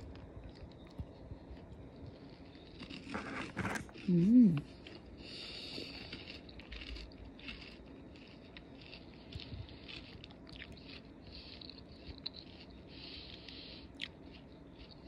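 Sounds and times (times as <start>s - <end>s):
person chewing salad: 0.0s - 15.0s.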